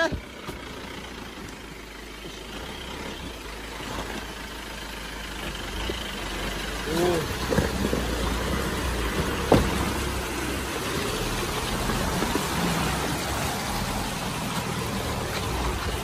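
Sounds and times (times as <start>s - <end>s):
diesel engine running at low speed: 0.0s - 16.0s.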